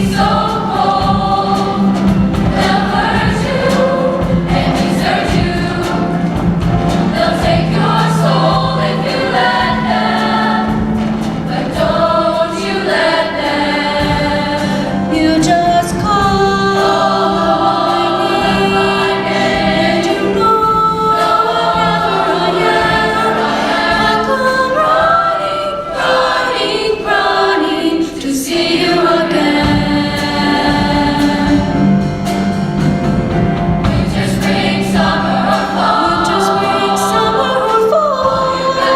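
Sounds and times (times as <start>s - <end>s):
choir singing in harmony: 0.0s - 38.9s
low musical accompaniment: 0.0s - 38.9s.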